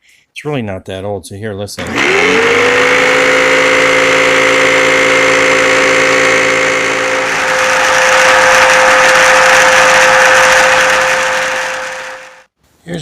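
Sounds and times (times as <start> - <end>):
brush roller rattling: 1.8 - 12.5
vacuum cleaner running: 1.8 - 12.5.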